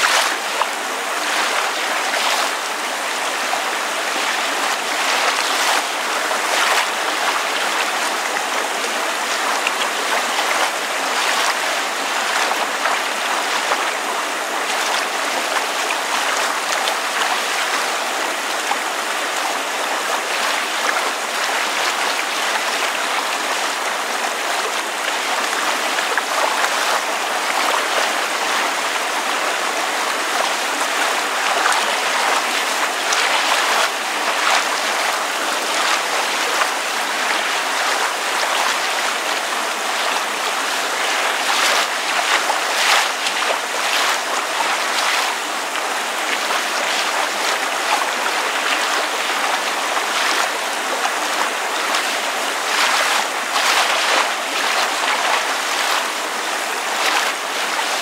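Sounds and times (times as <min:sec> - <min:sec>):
rain falling: 0:00.0 - 0:58.0
water lapping and splashing: 0:00.0 - 0:58.0.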